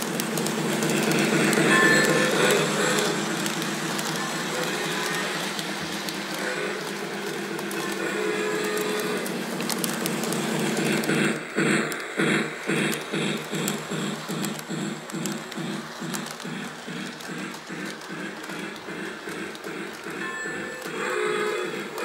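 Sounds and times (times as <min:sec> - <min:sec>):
toy train running on track: 0:00.0 - 0:22.0.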